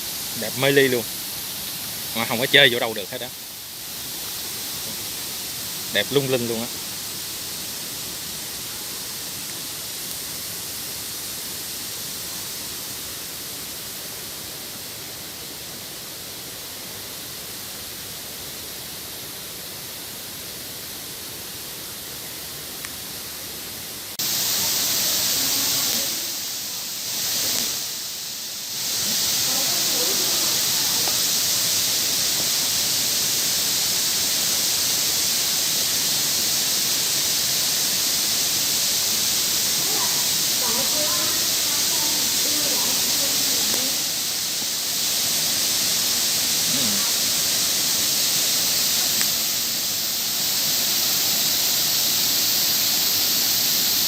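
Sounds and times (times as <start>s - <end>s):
rushing water hiss: 0.0s - 54.0s.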